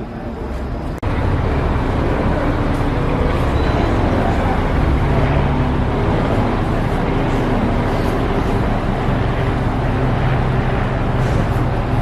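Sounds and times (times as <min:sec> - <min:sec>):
crane engine rumbling: 0:00.0 - 0:12.0.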